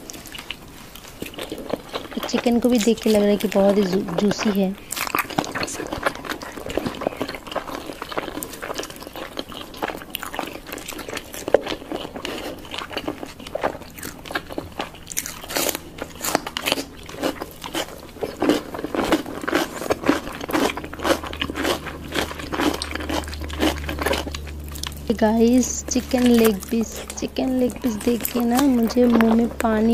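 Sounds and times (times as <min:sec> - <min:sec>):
crunchy bites and chewing: 0:00.0 - 0:29.9.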